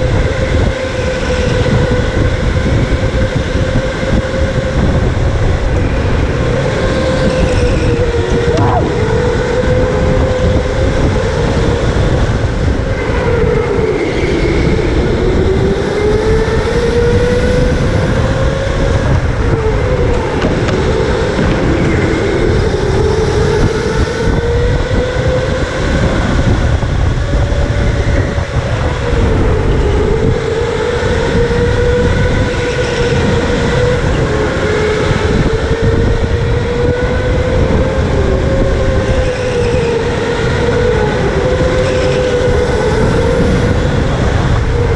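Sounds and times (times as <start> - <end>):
electric go-kart motor whining: 0.0 - 44.9
rumble of tyres and wind: 0.0 - 44.9.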